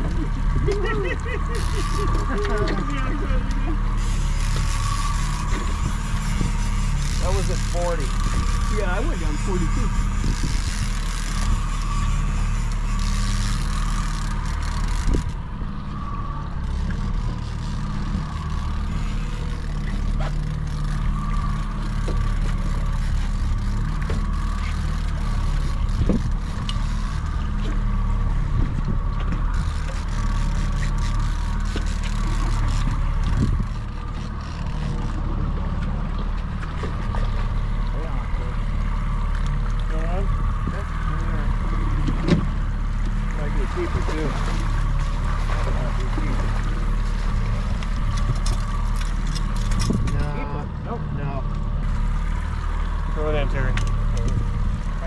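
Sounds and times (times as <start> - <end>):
boat motor running: 0.0 - 55.0
water and wind noise: 0.0 - 55.0.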